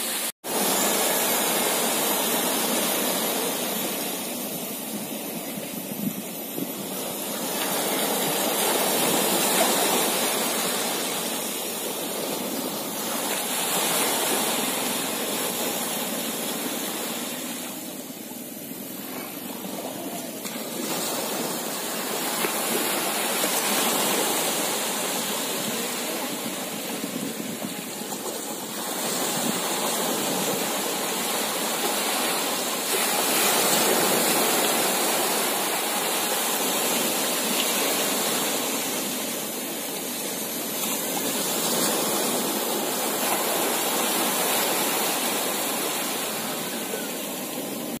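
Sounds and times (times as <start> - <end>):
small waves breaking on sand: 0.0 - 48.0.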